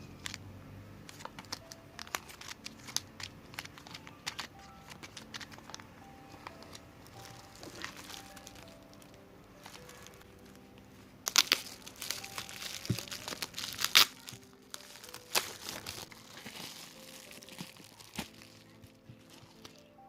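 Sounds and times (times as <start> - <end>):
soft background music: 0.0 - 20.0
packaging crinkling: 1.1 - 19.9.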